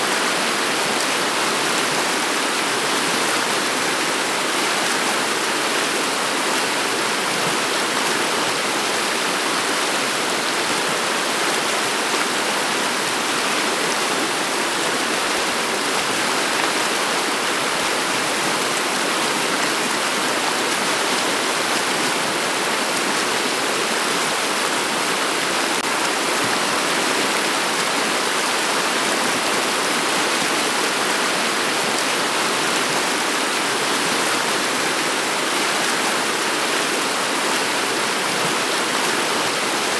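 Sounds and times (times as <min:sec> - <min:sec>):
river water flowing over pebbles: 0:00.0 - 0:39.9.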